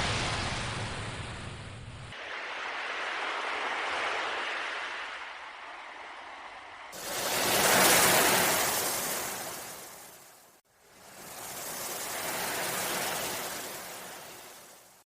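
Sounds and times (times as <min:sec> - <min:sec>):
sea waves washing in: 0:00.0 - 0:15.0.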